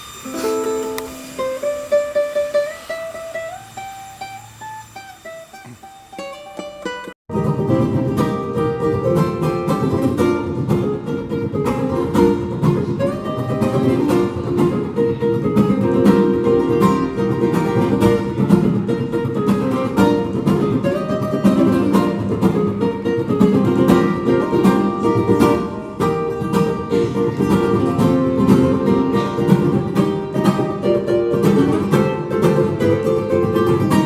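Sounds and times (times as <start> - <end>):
plucked string instruments playing: 0.0 - 34.0.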